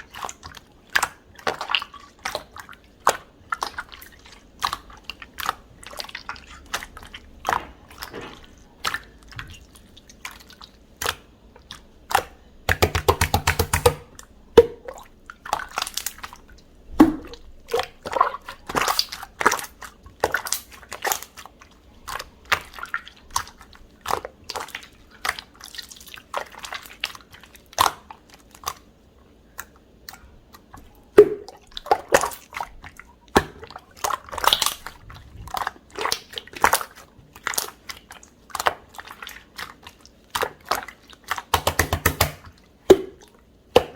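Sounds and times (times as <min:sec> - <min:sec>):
slime squelching and popping: 0:00.0 - 0:43.9.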